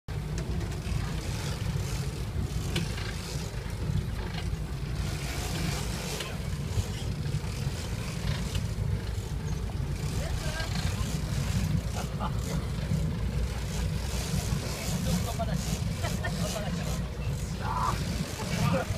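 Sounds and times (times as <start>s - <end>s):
boat engine rumbling: 0.1s - 18.9s
wind and water noise: 0.1s - 18.9s.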